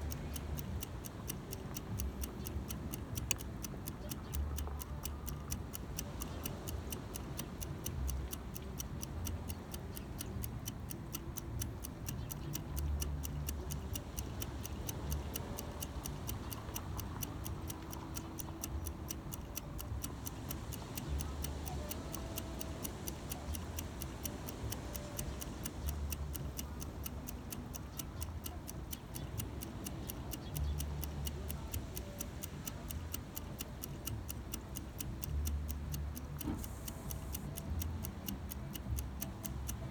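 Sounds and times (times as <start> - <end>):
rapid ticking: 0.0 - 39.9.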